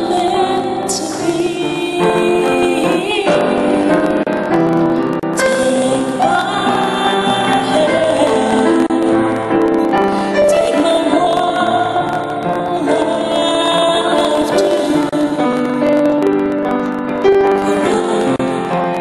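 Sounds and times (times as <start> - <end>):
woman singing: 0.0 - 4.3, 5.4 - 16.2, 17.4 - 19.0
grand piano: 0.0 - 19.0.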